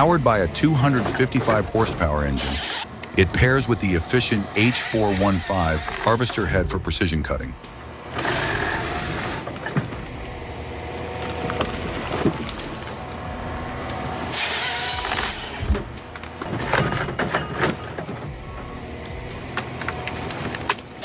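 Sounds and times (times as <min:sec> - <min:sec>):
harvester engine droning: 0:00.0 - 0:21.0
loud hiss: 0:00.0 - 0:21.0.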